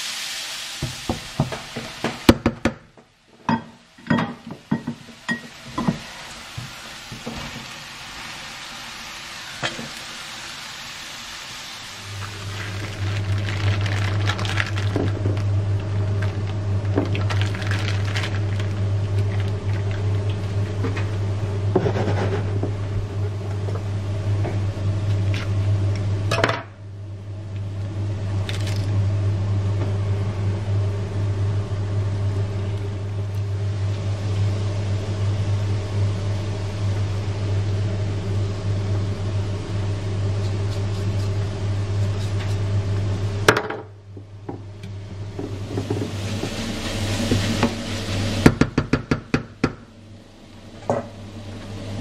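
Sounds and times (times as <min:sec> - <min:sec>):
low electrical hum: 0:00.0 - 0:52.0.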